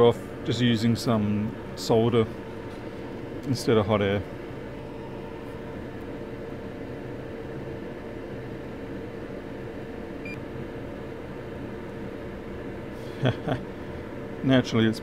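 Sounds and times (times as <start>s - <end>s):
bench equipment humming: 0.0s - 15.0s.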